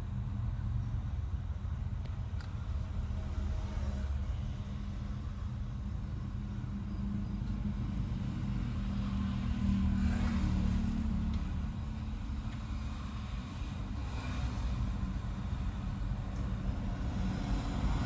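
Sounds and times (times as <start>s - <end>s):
vehicle engine rumbling: 0.1s - 6.7s, 8.9s - 17.2s.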